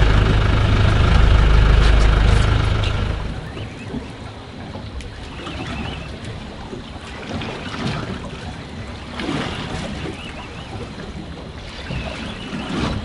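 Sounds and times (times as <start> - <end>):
water slapping against boat hull: 0.0 - 13.0.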